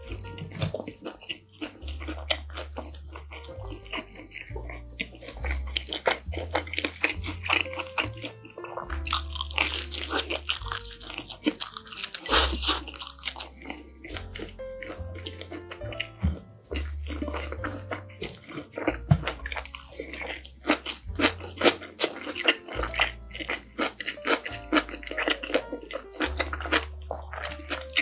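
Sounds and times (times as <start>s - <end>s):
background music with bass line: 0.0s - 28.0s
chewing and crunching pizza: 0.0s - 28.0s.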